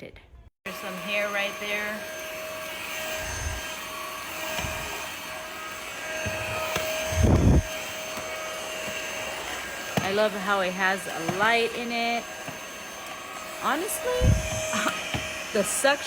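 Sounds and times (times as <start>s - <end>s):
vacuum motor whine: 0.7s - 16.0s.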